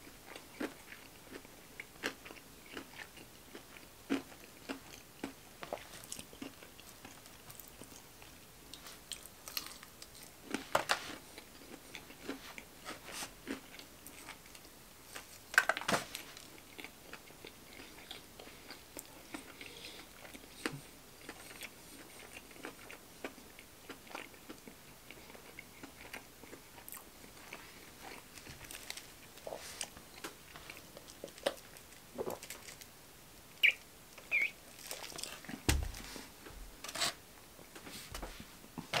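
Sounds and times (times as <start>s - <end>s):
chewing and crunching fried chicken: 0.0s - 35.7s.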